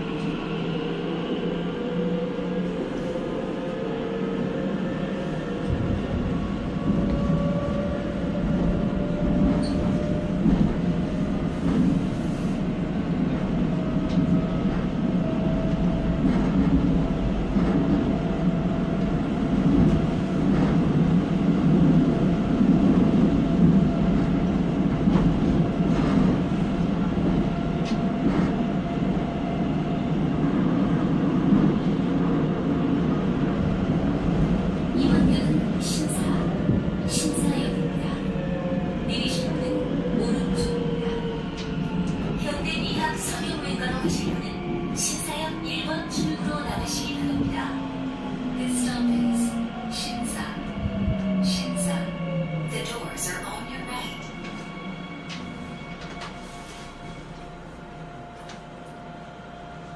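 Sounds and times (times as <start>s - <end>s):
train wheels rumbling on rails: 0.0s - 57.5s.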